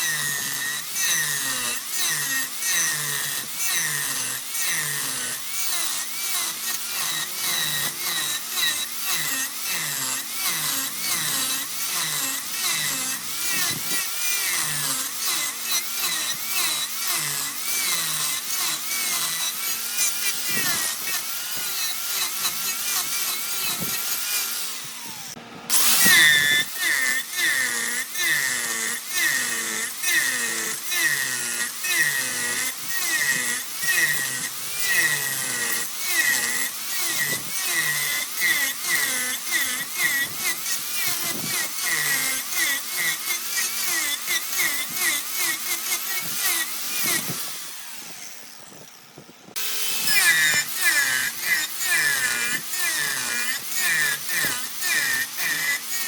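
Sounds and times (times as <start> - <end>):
wood lathe scraping and whirring: 0.0 - 56.0.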